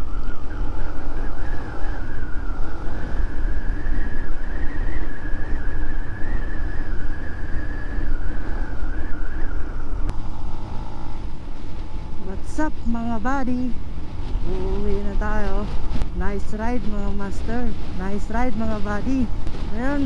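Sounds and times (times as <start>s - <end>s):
motorcycle engine cruising: 0.0s - 20.0s
wind rumble on microphone: 0.0s - 20.0s.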